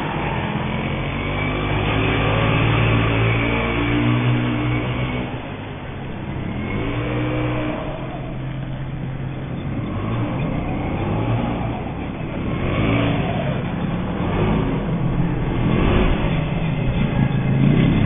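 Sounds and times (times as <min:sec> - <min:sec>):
small two-stroke engine revving: 0:00.2 - 0:08.6, 0:09.6 - 0:18.0.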